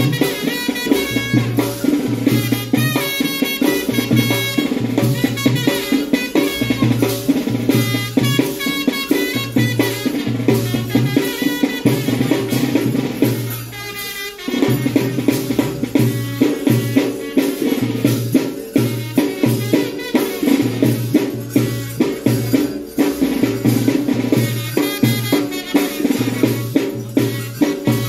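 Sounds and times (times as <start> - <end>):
drum-led music: 0.0 - 28.0
rattling percussion: 0.0 - 28.0.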